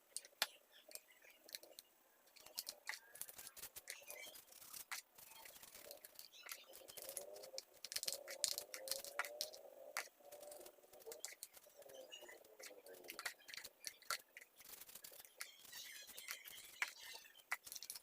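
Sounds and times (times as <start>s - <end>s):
hands clicking and scraping parts: 0.0s - 18.0s.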